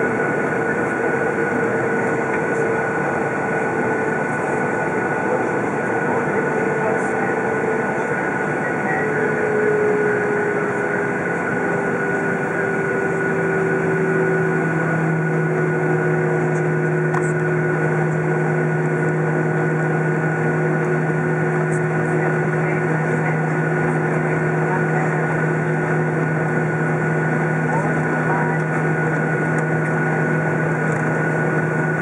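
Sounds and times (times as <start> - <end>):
jet engine whine in cabin: 0.0 - 32.0.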